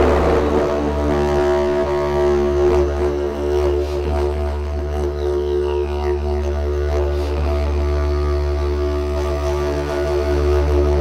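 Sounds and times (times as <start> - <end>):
didgeridoo drone: 0.0 - 11.0.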